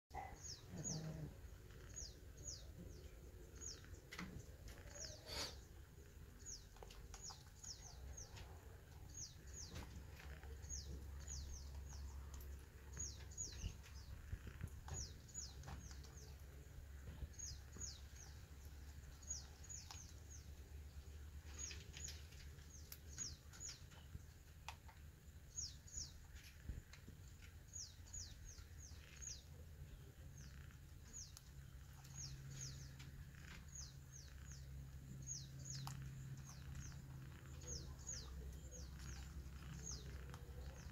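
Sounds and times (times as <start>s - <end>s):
small birds chirping: 0.1s - 40.9s
faint low rumble: 0.2s - 40.9s.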